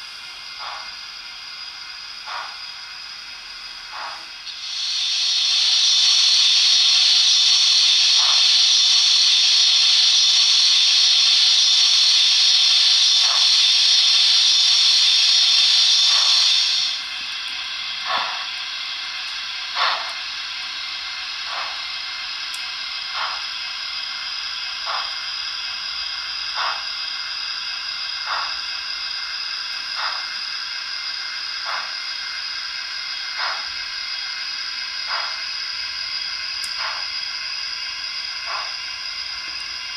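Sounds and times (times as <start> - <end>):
loud steam hiss: 0.0 - 39.9
steam locomotive exhaust chuffs: 0.0 - 39.9.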